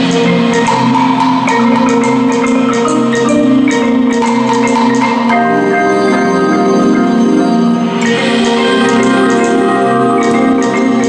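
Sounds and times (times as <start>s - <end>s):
marimbas playing quick runs: 0.0s - 11.0s
sustained chords: 0.0s - 11.0s.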